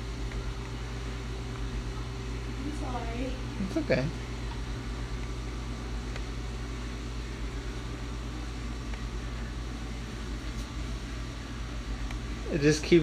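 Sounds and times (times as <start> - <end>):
dishwasher running: 0.0 - 13.0.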